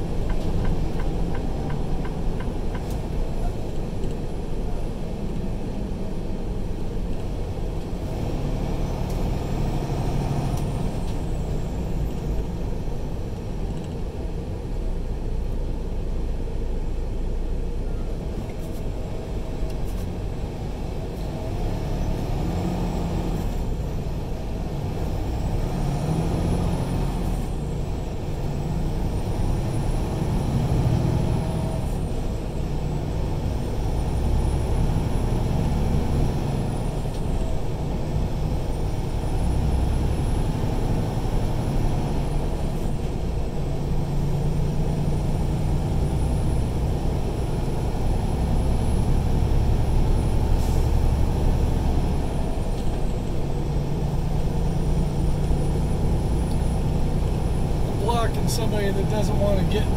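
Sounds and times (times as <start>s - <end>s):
road rumble: 0.0s - 59.9s
truck engine drone: 0.0s - 59.9s.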